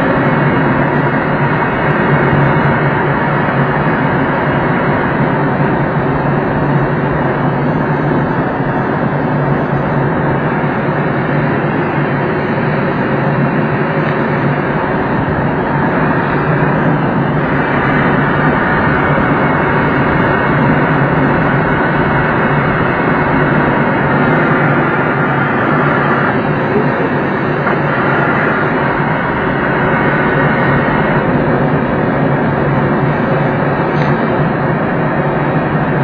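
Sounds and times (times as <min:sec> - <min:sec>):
rushing airflow around canopy: 0:00.0 - 0:36.0.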